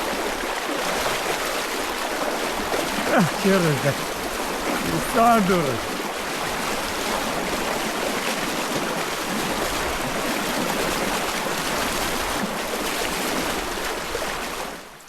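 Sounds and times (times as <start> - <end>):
river water rushing: 0.0 - 14.2.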